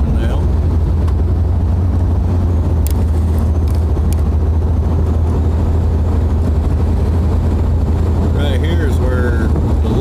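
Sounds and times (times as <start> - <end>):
engine and road noise: 0.0 - 10.0.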